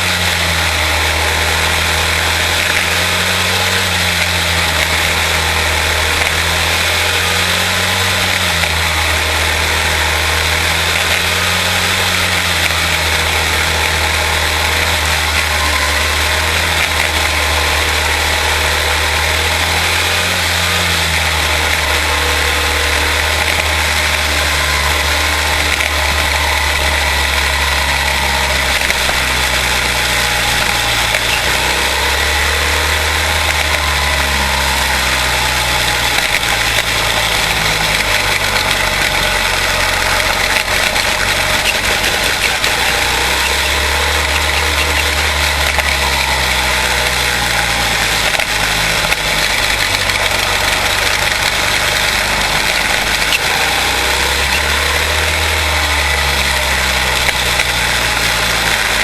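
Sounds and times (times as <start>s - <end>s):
race car engines running: 0.0s - 59.0s.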